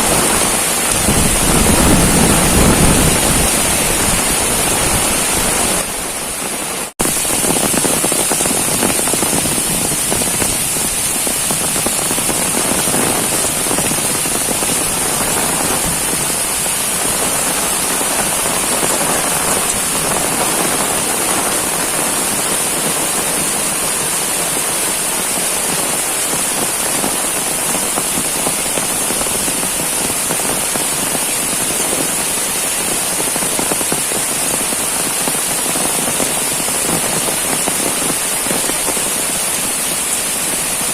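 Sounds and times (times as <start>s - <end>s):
heavy rain pouring: 0.0s - 40.9s
raindrops hitting hard surfaces: 0.0s - 40.9s.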